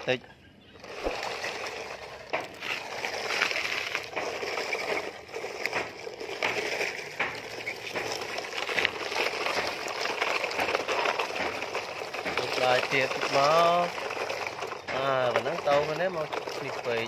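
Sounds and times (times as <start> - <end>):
gravel crunching: 0.0 - 17.0.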